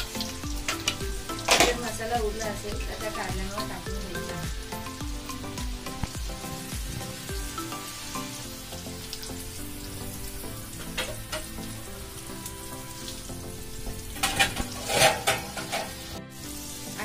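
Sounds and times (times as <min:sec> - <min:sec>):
gentle oil sizzle: 0:00.0 - 0:17.0.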